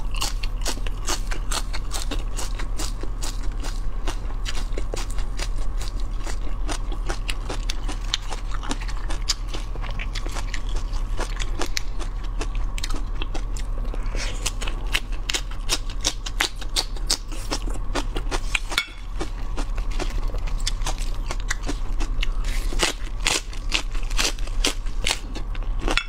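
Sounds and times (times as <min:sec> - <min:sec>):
low electrical hum: 0:00.0 - 0:26.0
person crunching and chewing: 0:00.0 - 0:26.0.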